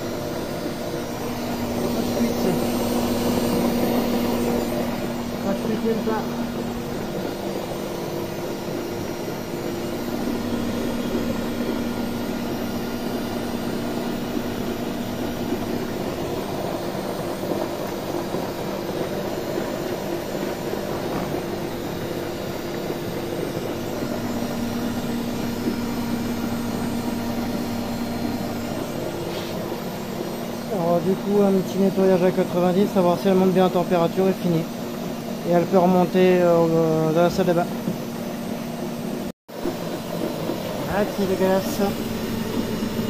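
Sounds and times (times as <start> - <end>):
washing machine spinning: 0.0 - 43.0.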